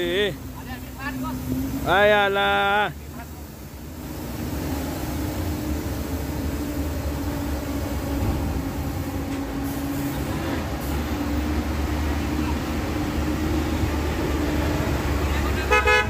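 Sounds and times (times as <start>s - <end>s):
diesel bus engine droning: 0.0s - 16.0s
road noise: 0.0s - 16.0s.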